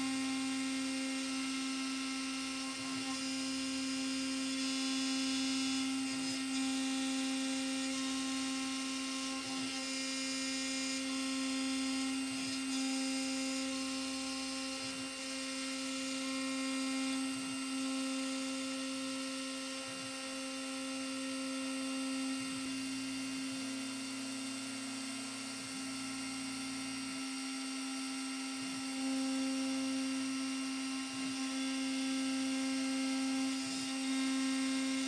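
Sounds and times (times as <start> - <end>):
end mill cutting plastic: 0.0 - 35.0
mill spindle humming: 0.0 - 35.0.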